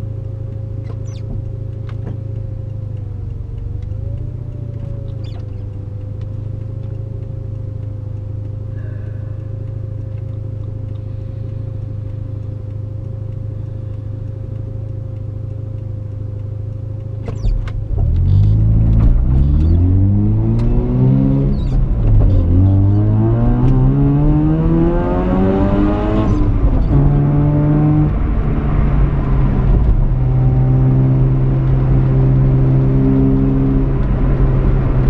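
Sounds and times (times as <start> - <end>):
rotary engine idling and revving: 0.0 - 35.0.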